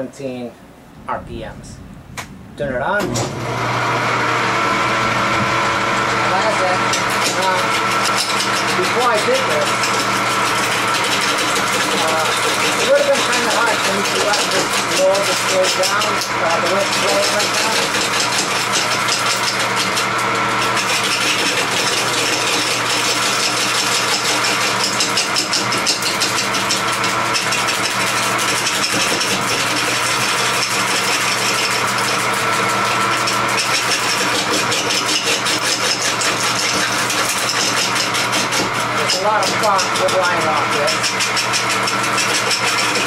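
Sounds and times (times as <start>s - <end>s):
wood lathe motor and belt hum: 3.0s - 43.0s.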